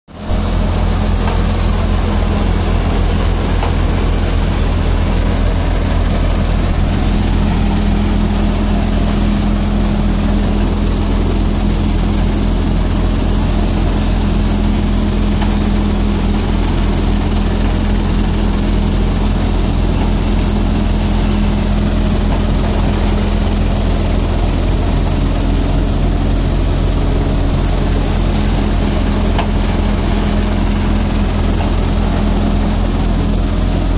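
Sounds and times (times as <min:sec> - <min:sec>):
thresher machine running: 0:00.1 - 0:33.9.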